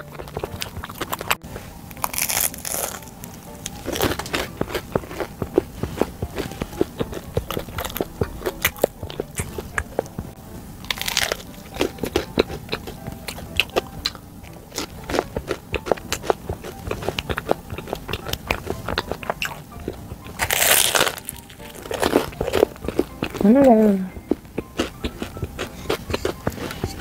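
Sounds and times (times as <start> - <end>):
chewing clicks: 0.0 - 3.0, 3.8 - 10.1, 10.9 - 23.4, 24.3 - 27.0
bagel crust crunching: 0.0 - 10.1, 10.8 - 23.5, 24.3 - 27.0.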